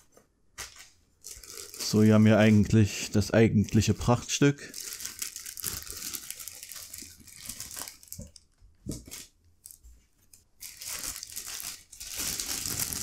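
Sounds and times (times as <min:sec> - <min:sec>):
plastic bag crinkling: 0:01.2 - 0:13.0.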